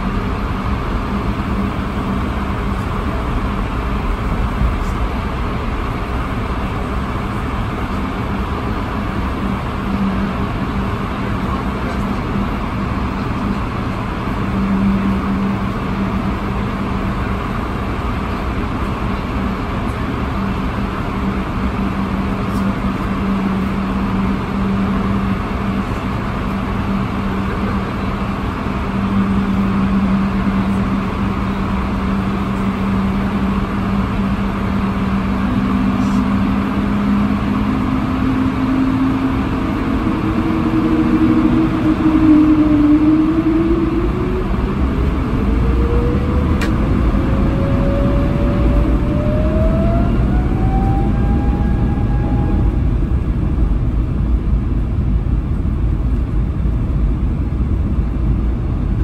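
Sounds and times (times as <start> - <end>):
aircraft cabin engine rush: 0.0 - 59.0.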